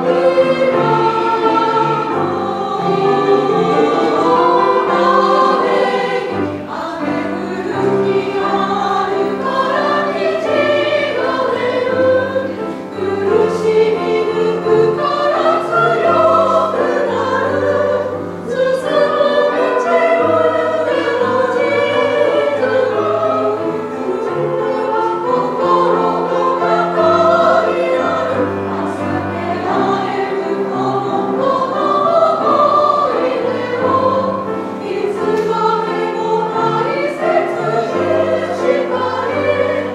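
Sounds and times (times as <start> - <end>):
grand piano accompaniment: 0.0 - 39.9
women's choir singing: 0.0 - 39.9.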